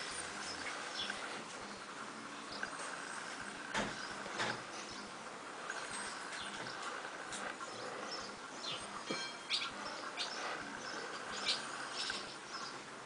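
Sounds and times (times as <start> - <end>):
fledglings chirping: 0.0 - 13.0.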